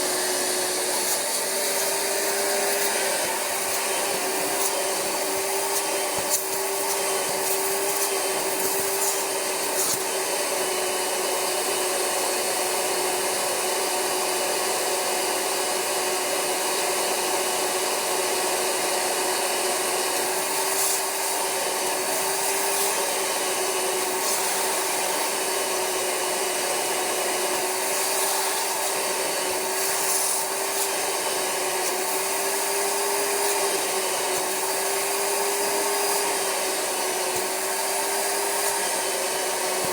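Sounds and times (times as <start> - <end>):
carpet cleaner suction hiss: 0.0 - 39.9.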